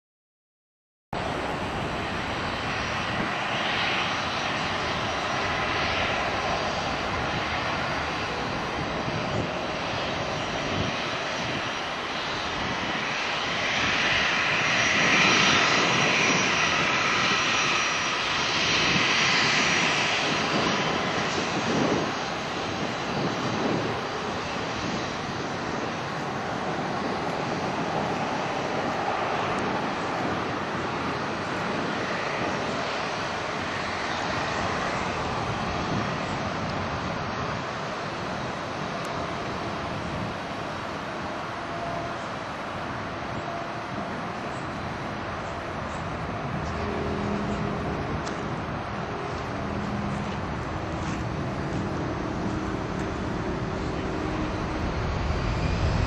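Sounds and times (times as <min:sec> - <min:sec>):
jet engines whining: 0:01.2 - 0:56.0.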